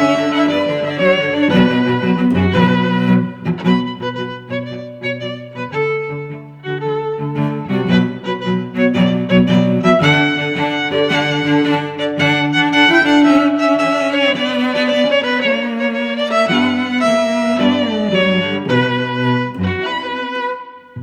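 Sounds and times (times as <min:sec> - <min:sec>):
bowed strings with violin: 0:00.0 - 0:21.0.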